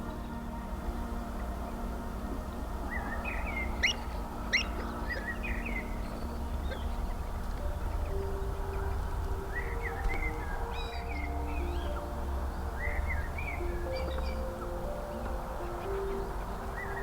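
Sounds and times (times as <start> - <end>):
marsh birds calling: 2.4 - 17.0.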